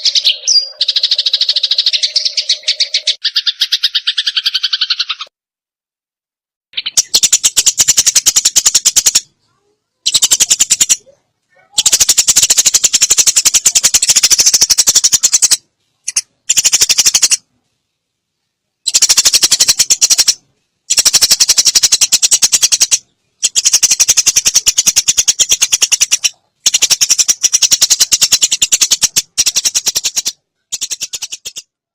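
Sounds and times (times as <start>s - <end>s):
sparrow chattering: 0.0s - 5.3s, 6.8s - 17.4s, 18.8s - 31.8s.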